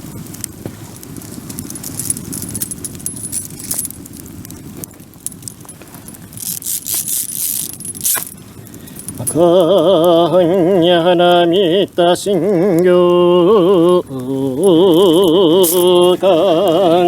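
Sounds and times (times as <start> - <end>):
bonfire crackling and popping: 0.0 - 17.0
low steady rumble: 0.0 - 17.0.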